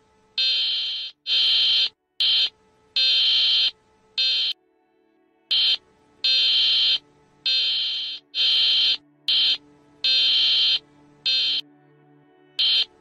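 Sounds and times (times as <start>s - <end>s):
shrill electronic alarm beeping: 0.4s - 4.6s, 5.5s - 11.6s, 12.6s - 13.0s.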